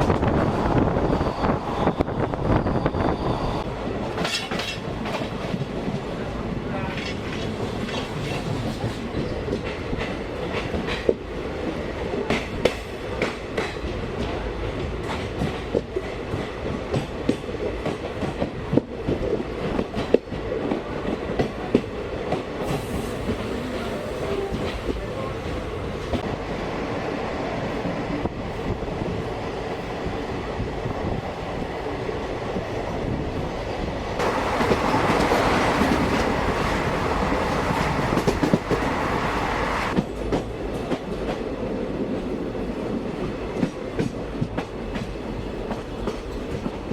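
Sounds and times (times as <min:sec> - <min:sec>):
train coach rumbling: 0:00.0 - 0:46.9.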